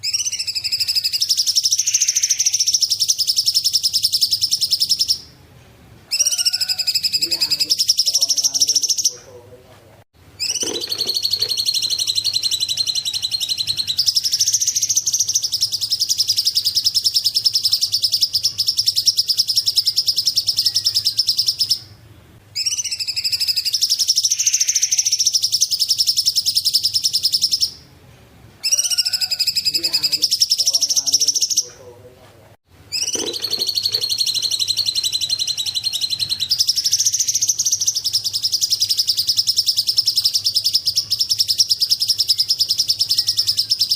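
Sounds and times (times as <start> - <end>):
bird singing fast trill: 0.0 - 5.3, 6.1 - 9.2, 10.4 - 22.0, 22.6 - 27.8, 28.6 - 31.8, 32.9 - 43.9.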